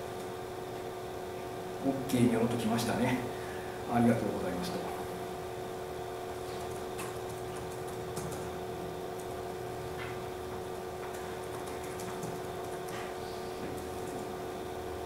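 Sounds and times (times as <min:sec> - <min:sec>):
steady hum with tones: 0:00.0 - 0:15.0.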